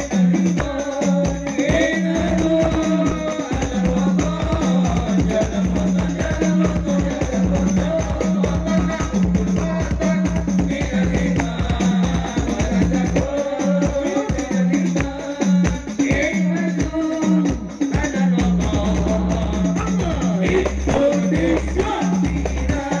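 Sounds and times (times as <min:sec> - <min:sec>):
hand percussion rhythm: 0:00.0 - 0:23.0
person singing: 0:00.0 - 0:23.0.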